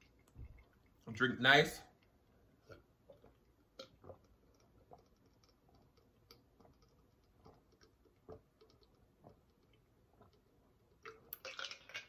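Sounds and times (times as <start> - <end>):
person gulping a drink: 2.0 - 12.0.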